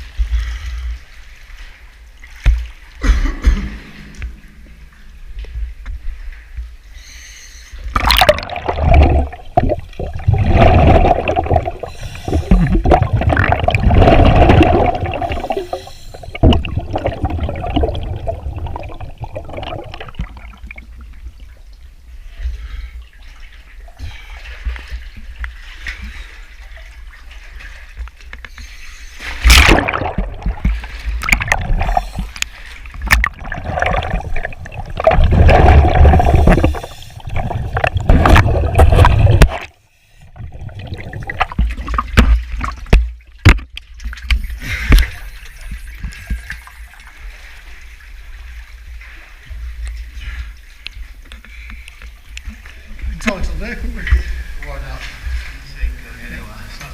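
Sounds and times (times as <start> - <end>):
water splashing and gurgling: 0.0 - 7.0, 7.8 - 55.6.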